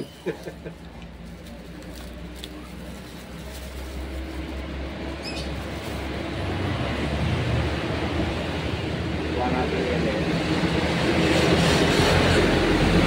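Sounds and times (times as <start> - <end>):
road traffic passing: 0.0 - 13.0
vehicle engine rumble: 0.0 - 13.0.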